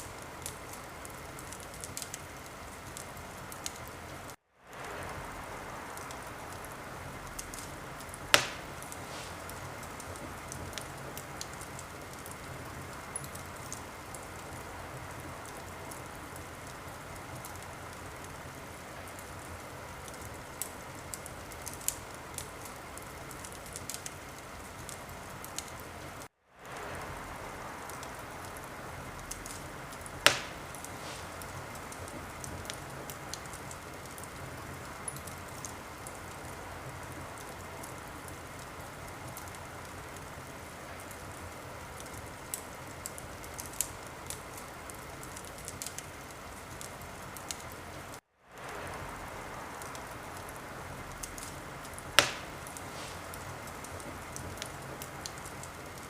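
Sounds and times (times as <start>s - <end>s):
loud fire pops: 0.0s - 40.3s, 48.5s - 56.0s
wood fire crackling: 0.0s - 56.0s.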